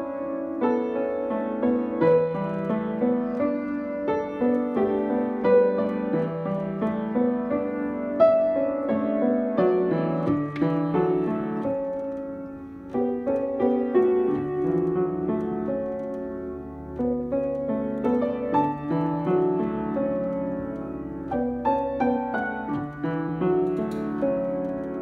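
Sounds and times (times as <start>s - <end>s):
piano melody over chords: 0.0s - 25.0s.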